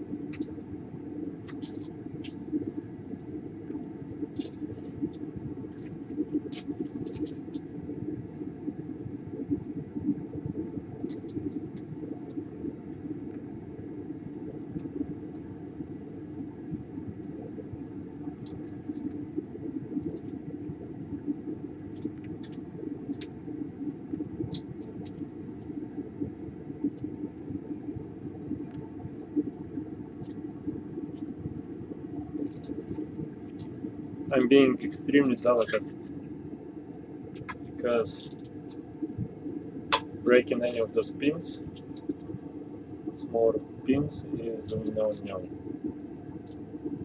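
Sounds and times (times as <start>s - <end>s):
low background rumble: 0.0s - 47.0s.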